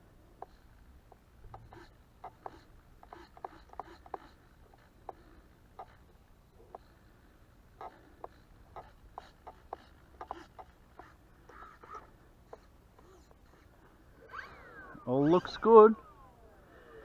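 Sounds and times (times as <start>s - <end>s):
servos buzzing: 0.4s - 7.1s, 7.7s - 17.0s.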